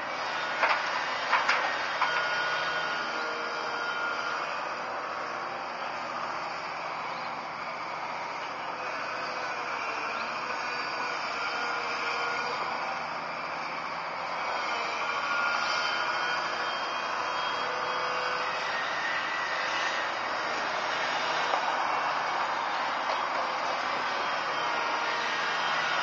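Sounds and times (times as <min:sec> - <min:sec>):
excavator engine and hydraulics: 0:00.0 - 0:26.0.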